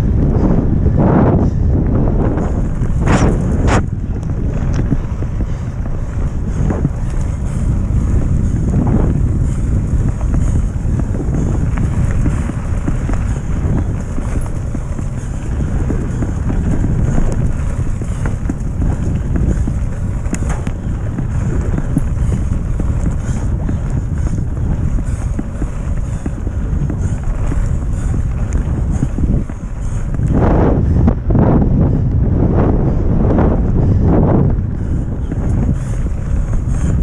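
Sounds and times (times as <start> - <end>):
bike tyre noise on dirt: 0.0 - 37.0
wind buffeting microphone: 0.0 - 37.0.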